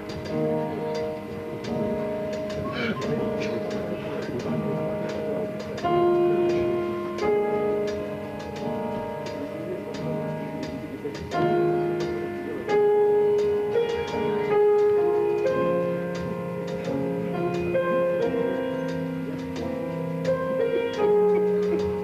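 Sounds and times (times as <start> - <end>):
melody of held notes: 0.0 - 22.0.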